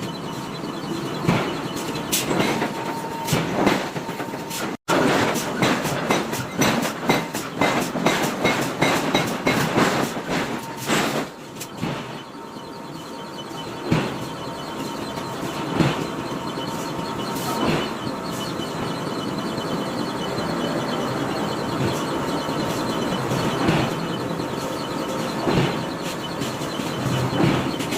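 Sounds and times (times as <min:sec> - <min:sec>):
mechanical hum: 0:00.0 - 0:27.9.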